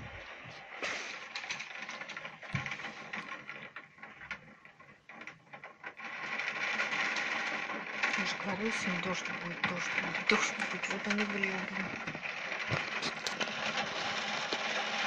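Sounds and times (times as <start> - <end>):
heavy rain and hail on hard surfaces: 0.0 - 15.0.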